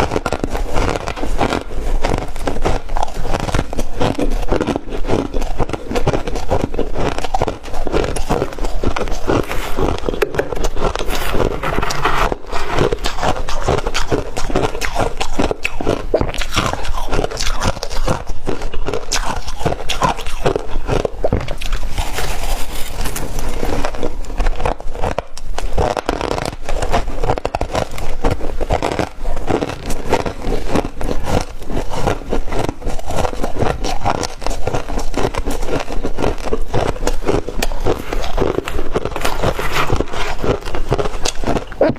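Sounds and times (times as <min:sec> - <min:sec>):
chewing crunchy frost: 0:00.0 - 0:41.9.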